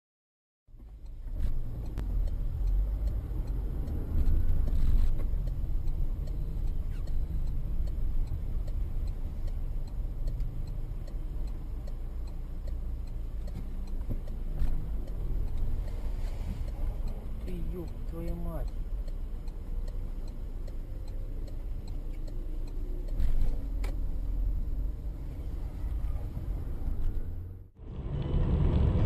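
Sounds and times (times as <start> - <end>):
faint regular ticking: 0.7 - 27.6
car engine and tyre rumble: 0.7 - 29.0.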